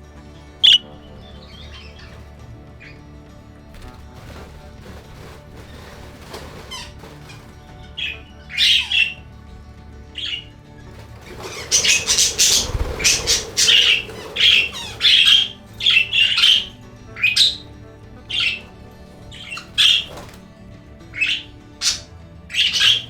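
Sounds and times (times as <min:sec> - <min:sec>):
budgerigars chirping and squawking: 0:00.6 - 0:03.0, 0:03.8 - 0:09.3, 0:10.1 - 0:20.4, 0:21.1 - 0:23.0.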